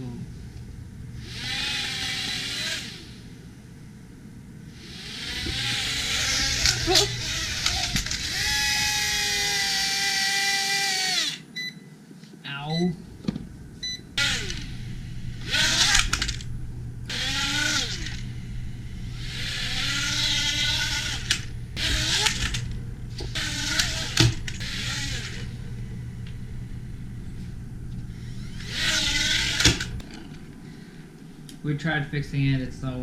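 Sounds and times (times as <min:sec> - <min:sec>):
drone propellers whining: 0:00.0 - 0:11.4, 0:14.1 - 0:31.5
steady low hum: 0:00.0 - 0:33.0.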